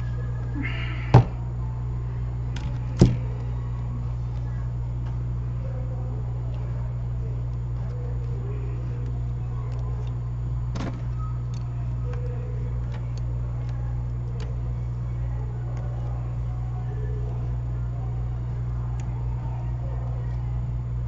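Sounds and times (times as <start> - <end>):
bench equipment humming: 0.0 - 21.0.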